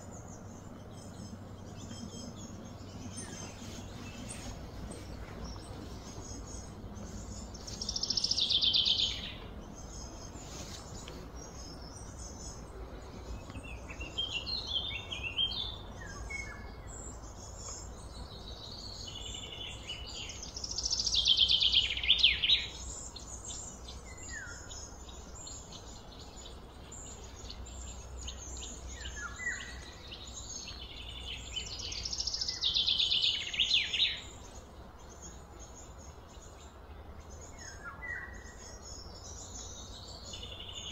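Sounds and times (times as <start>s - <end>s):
low background rumble: 0.0s - 33.5s
bird chirps: 0.0s - 40.9s
birds singing trilled phrases: 0.0s - 40.9s.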